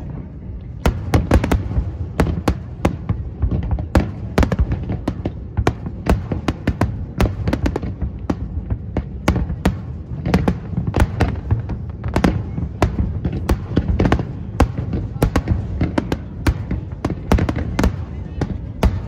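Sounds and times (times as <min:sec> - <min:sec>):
fireworks bursting with sharp bangs: 0:00.0 - 0:19.0
low rumble of fireworks barrage: 0:00.0 - 0:19.0.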